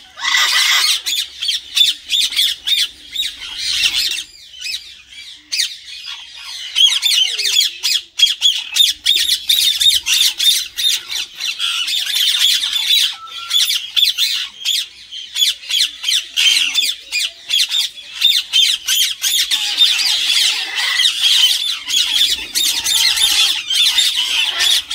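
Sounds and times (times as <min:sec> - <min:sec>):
parakeets squawking: 0:00.0 - 0:24.9.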